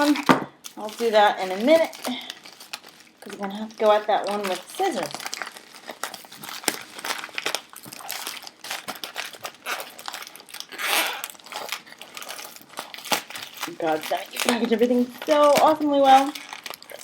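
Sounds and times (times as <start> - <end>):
packaging wrap crinkling: 0.0 - 17.0.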